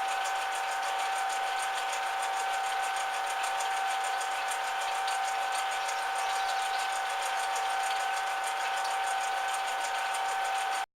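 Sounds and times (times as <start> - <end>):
metal lathe whining: 0.0 - 10.8.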